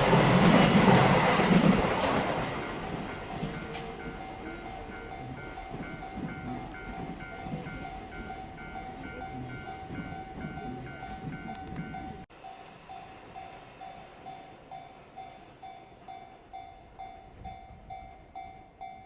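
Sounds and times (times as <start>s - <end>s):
train rumbling on tracks: 0.0s - 19.0s
level crossing alarm dinging: 2.4s - 19.0s.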